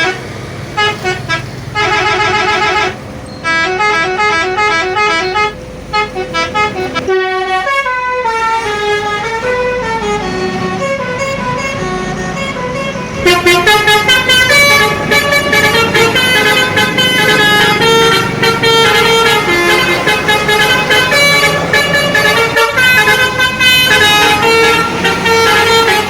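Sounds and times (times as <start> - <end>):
bus rumbling past: 0.0 - 26.0
multi-tone musical bus horn: 0.0 - 26.0.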